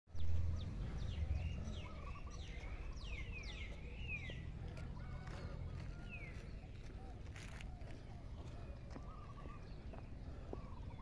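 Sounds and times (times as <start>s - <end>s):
low steady rumble: 0.1s - 10.9s
birds whistling calls: 0.2s - 11.0s.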